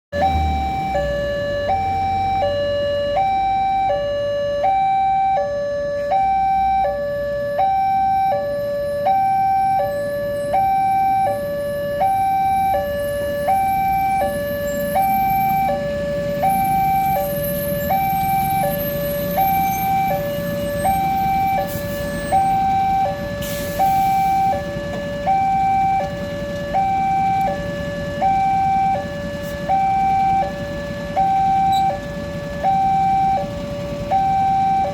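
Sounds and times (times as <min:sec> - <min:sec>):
level crossing two-tone alarm: 0:00.1 - 0:34.9.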